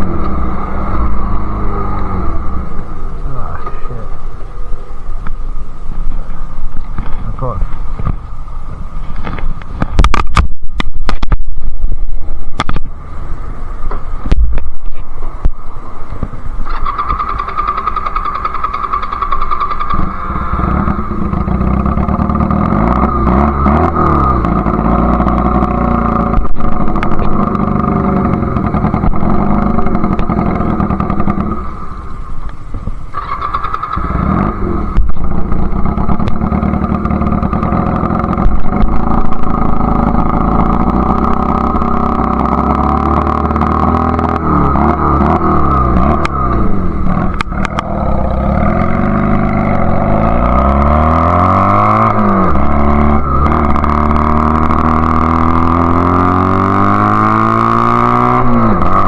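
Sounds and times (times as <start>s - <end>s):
motorcycle engine revving: 0.0s - 11.7s, 12.4s - 59.0s.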